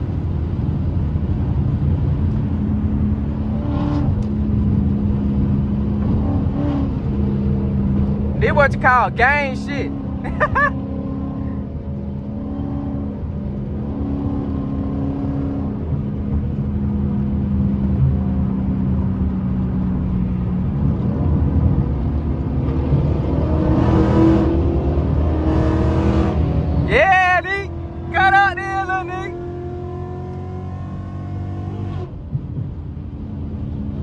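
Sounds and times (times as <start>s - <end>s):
car engine drone: 0.0s - 34.0s
road noise: 0.0s - 34.0s.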